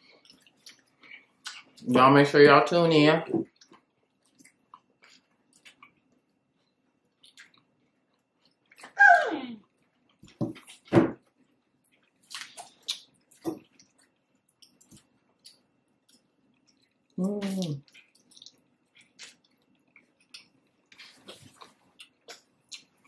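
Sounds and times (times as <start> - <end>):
wet chewing and crunching: 0.0 - 1.9, 3.5 - 9.0, 9.6 - 23.0.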